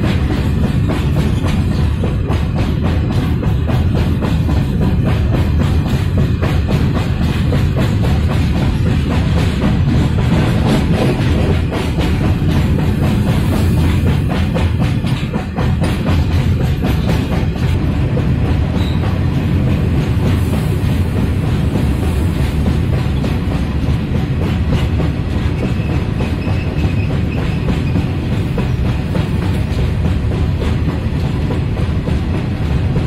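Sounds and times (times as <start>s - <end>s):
wheels clattering over rail joints: 0.0s - 20.2s, 22.6s - 33.0s
freight train rumble: 0.0s - 33.0s.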